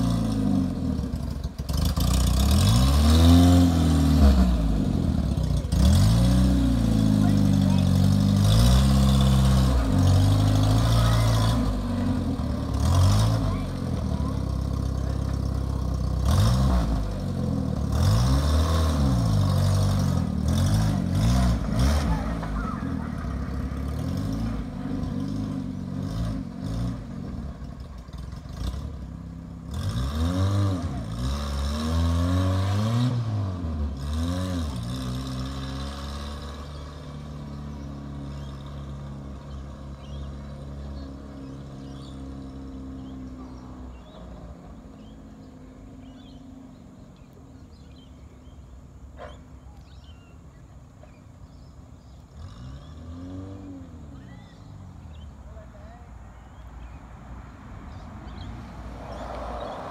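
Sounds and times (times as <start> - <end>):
small car engine pulling away: 0.0 - 55.8, 57.9 - 59.9.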